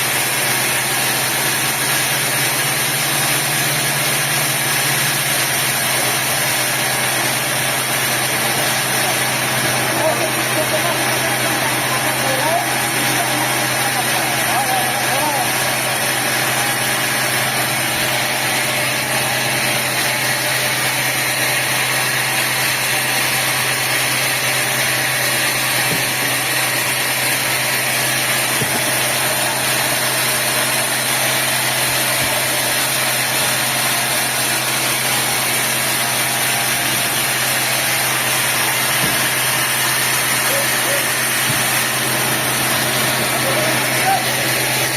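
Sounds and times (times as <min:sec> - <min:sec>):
sawmill machinery running: 0:00.0 - 0:44.9.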